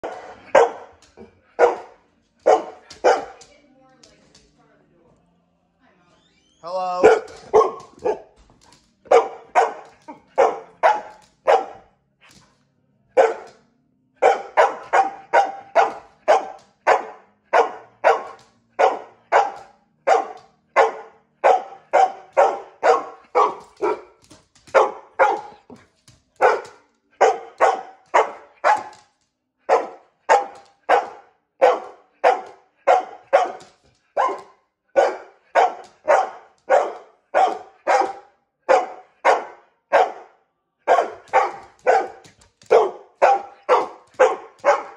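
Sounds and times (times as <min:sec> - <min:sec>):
dog barking: 0:00.0 - 0:03.5, 0:07.0 - 0:08.4, 0:09.0 - 0:12.0, 0:13.1 - 0:13.6, 0:14.2 - 0:25.8, 0:26.4 - 0:44.9.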